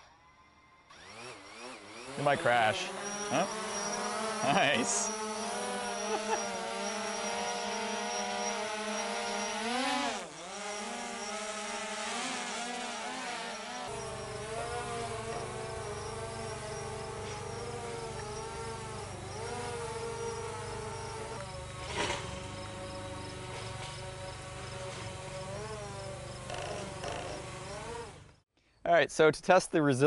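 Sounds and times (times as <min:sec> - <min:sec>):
drone propellers buzzing whine: 0:00.0 - 0:28.4.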